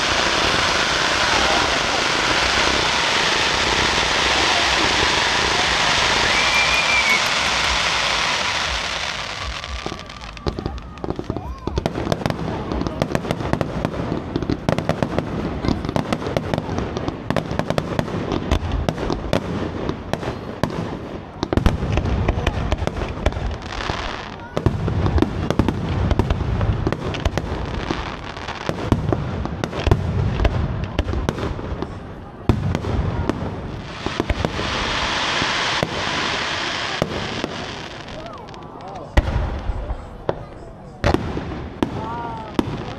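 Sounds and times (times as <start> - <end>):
fireworks bangs and crackles: 0.0 - 42.9
fireworks hiss: 0.0 - 42.9.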